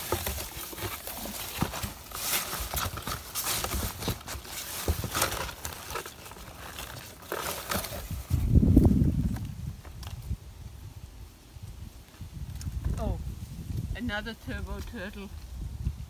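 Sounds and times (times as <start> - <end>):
rustling grass and cardboard: 0.0 - 16.0.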